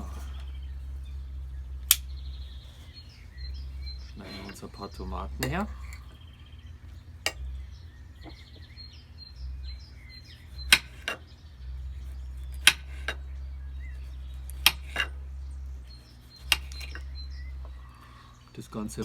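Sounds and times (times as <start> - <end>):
birds chirping faintly: 0.0 - 19.0.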